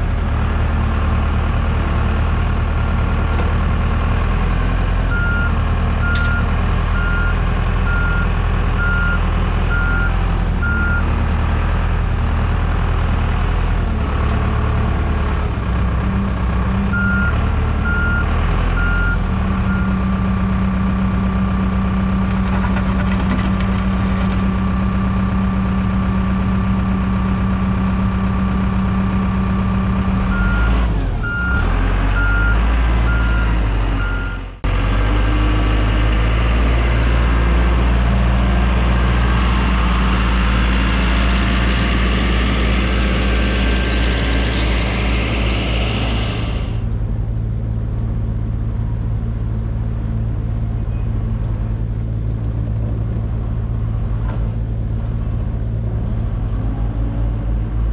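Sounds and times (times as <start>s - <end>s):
diesel heavy equipment running: 0.0s - 57.9s.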